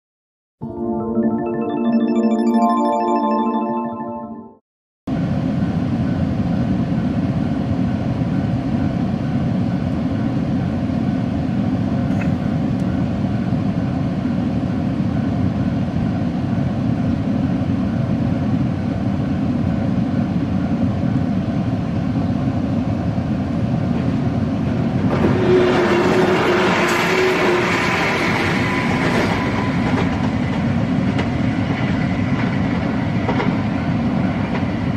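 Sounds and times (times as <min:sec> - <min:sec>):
train wheels rumbling on rail: 0:05.2 - 0:34.9.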